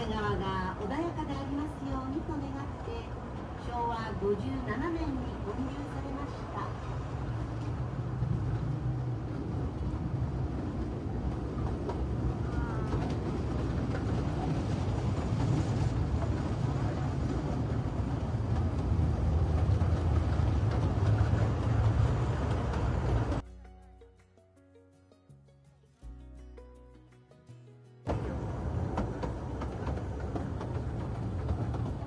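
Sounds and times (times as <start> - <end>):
train wheels rumbling on rail: 0.0 - 23.4, 28.1 - 32.0.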